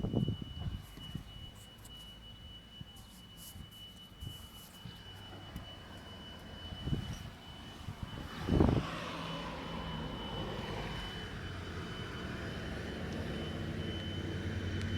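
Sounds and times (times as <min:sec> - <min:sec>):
high-pitched whine: 0:00.0 - 0:14.9.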